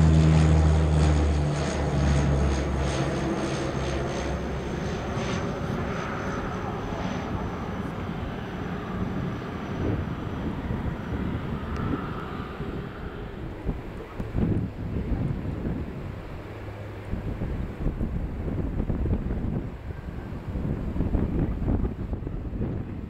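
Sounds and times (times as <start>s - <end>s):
low propeller drone: 0.0s - 23.0s
rushing aircraft engine noise: 0.0s - 23.0s.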